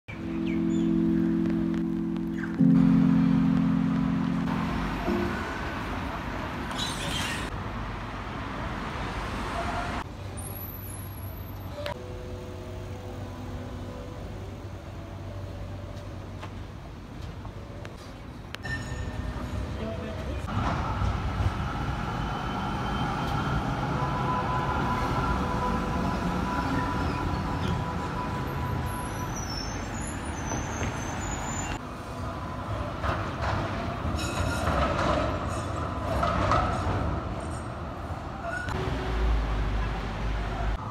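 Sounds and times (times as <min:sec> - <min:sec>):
tram electrical hum: 0:00.1 - 0:40.9
tram rolling past: 0:00.2 - 0:40.9.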